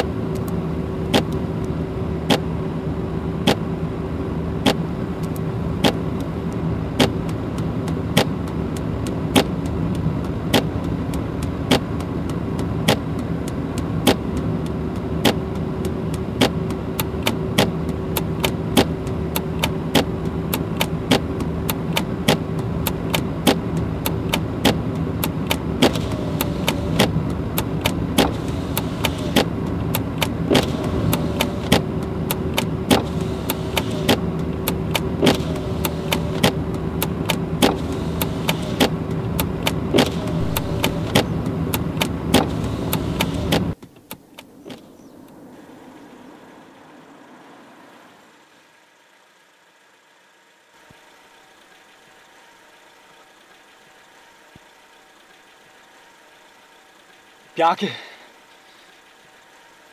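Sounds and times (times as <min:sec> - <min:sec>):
engine and road hum: 0:00.0 - 0:59.9.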